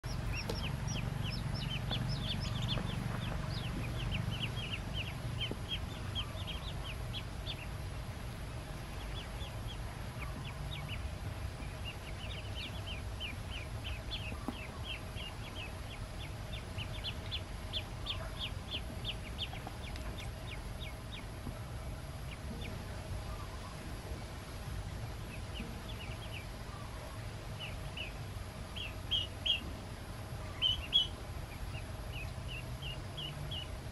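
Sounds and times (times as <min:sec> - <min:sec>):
ducklings peeping: 0:00.0 - 0:33.9
steady low hum: 0:00.0 - 0:33.9.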